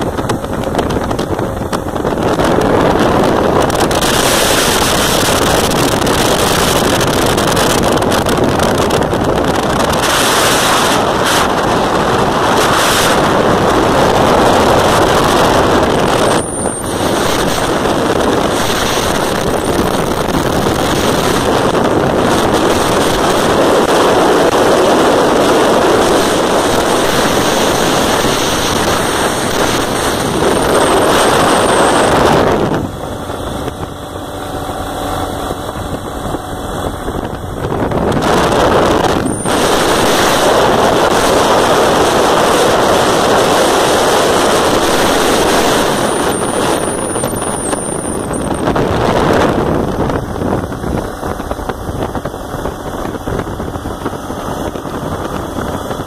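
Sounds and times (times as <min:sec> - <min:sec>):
motorcycle running and tyre noise: 0:00.0 - 0:56.0
wind rush over microphone: 0:00.0 - 0:56.0.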